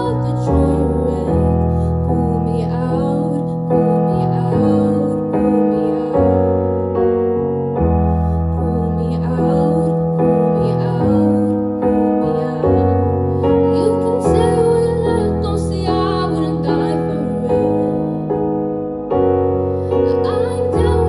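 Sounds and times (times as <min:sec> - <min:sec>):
piano playing slow chords: 0:00.0 - 0:21.0.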